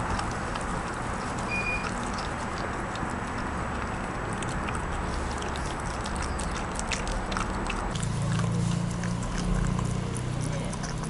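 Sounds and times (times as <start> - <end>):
dog chewing and licking: 0.0 - 11.0.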